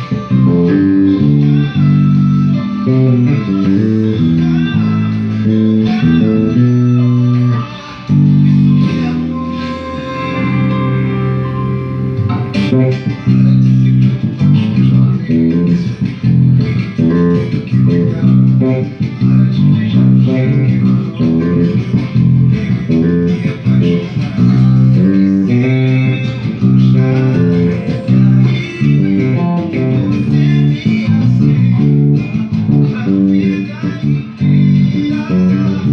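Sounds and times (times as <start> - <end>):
plucked string instrument: 0.0 - 35.4
recorded song playing: 0.0 - 35.9.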